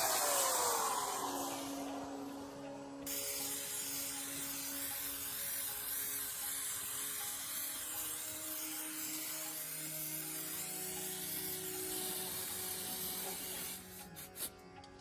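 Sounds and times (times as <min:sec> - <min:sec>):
steady hiss: 0:00.0 - 0:14.6.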